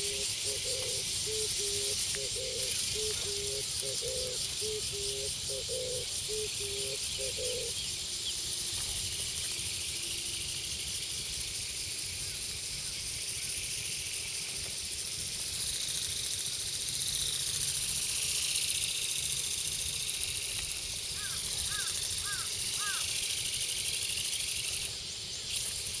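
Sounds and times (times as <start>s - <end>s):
insects shrilling: 0.0s - 26.0s.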